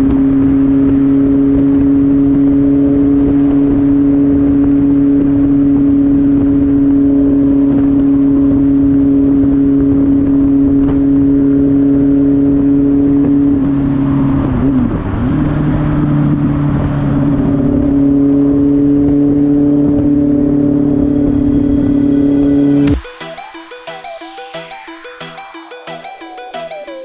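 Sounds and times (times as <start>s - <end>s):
wind and road noise: 0.0s - 23.0s
motorcycle engine running: 0.0s - 23.2s.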